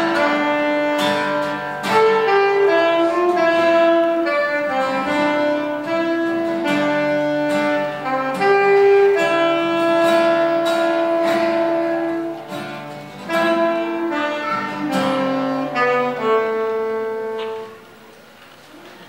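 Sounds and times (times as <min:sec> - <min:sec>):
strummed acoustic guitar: 0:00.0 - 0:18.0
saxophone melody: 0:00.0 - 0:18.1.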